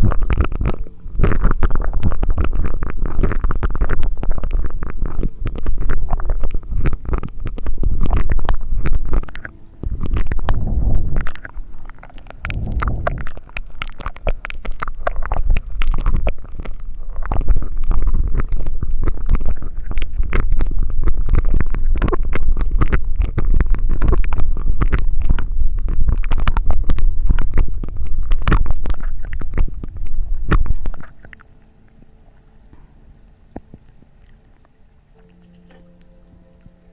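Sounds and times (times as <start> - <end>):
mouth sounds with drinking straw: 0.0 - 35.7.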